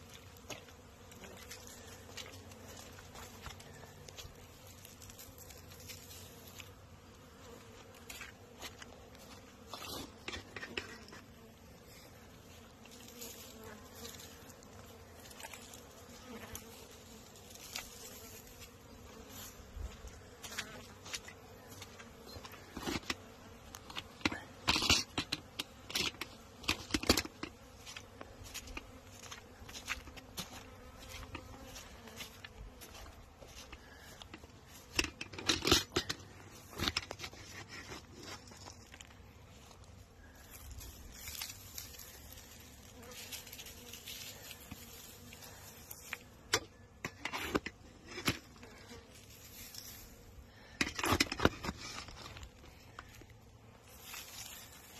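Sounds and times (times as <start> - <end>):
honeybees buzzing: 0.0 - 54.9.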